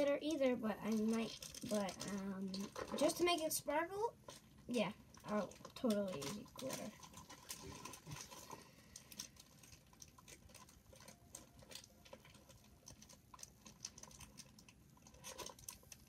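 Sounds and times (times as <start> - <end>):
small items clicking and rustling: 0.0 - 16.0.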